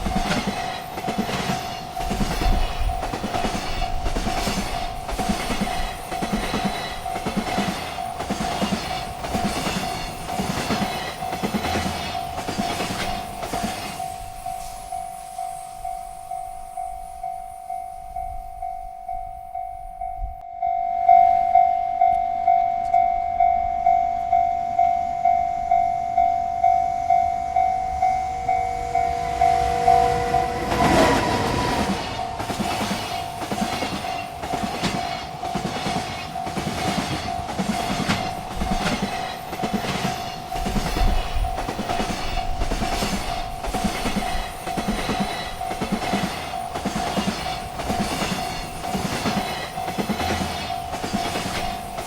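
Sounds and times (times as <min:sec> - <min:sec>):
train wheels clacking on rails: 0:00.0 - 0:20.3, 0:26.6 - 0:52.0
railroad crossing bell ringing: 0:00.0 - 0:52.0.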